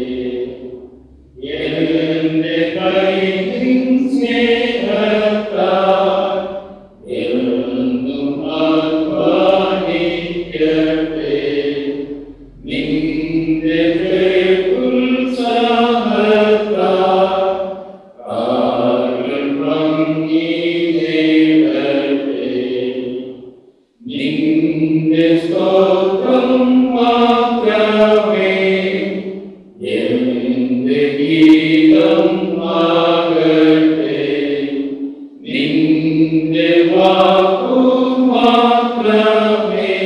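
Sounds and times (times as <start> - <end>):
church hymn singing: 0.0 - 40.0.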